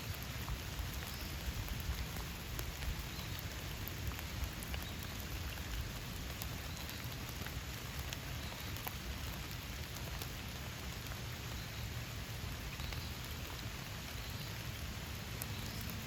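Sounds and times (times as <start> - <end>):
rain falling in a forest: 0.0 - 16.0.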